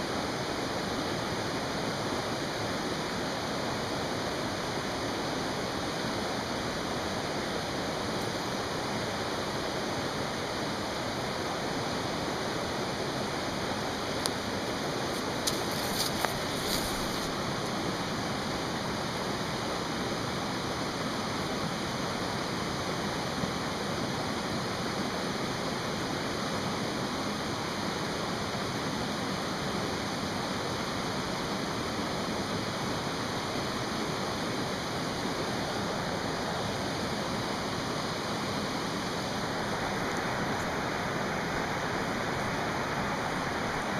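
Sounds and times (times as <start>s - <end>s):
mountain stream rushing: 0.0s - 43.9s.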